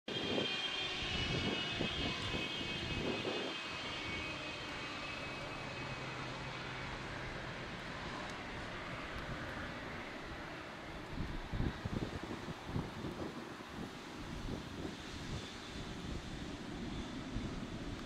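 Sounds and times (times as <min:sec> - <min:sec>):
high engine whine: 0:00.1 - 0:18.0
jet engines rumbling: 0:00.1 - 0:18.0.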